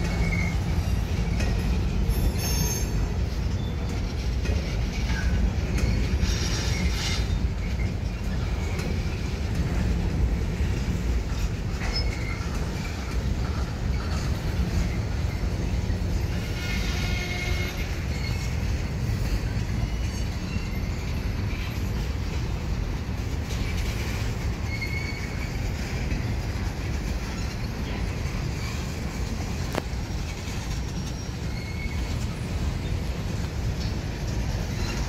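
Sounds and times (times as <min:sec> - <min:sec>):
high wheel squeals: 0:00.0 - 0:35.0
train wheels rumbling on rails: 0:00.0 - 0:35.0.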